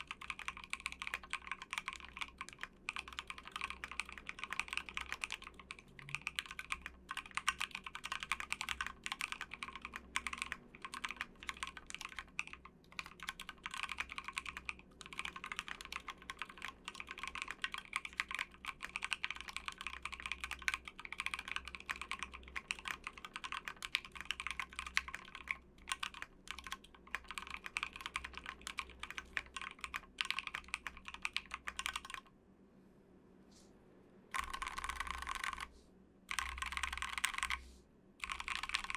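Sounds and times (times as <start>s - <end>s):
fast typing on mechanical keyboard: 0.0s - 32.3s, 34.3s - 35.7s, 36.3s - 37.6s, 38.2s - 38.9s.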